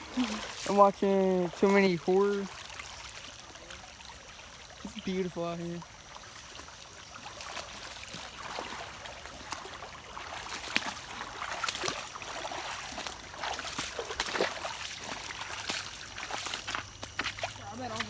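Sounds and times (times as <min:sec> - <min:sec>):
creek water trickling: 0:00.0 - 0:18.0
small water splashes: 0:00.0 - 0:18.0.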